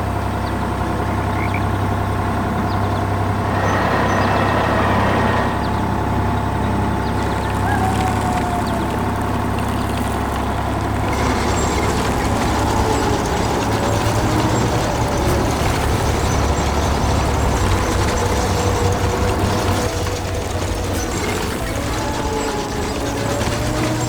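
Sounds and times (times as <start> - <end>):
diesel engine rumbling: 0.0 - 24.0.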